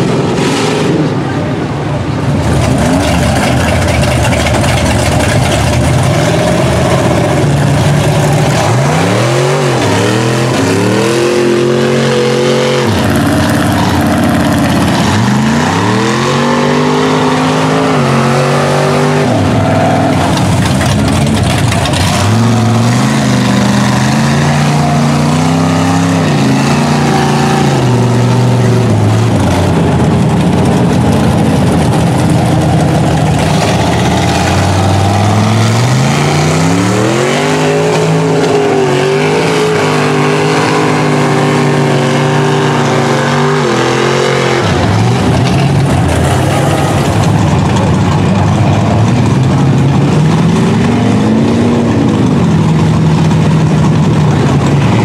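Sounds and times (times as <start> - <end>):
truck engine revving hard: 0.0 - 55.0.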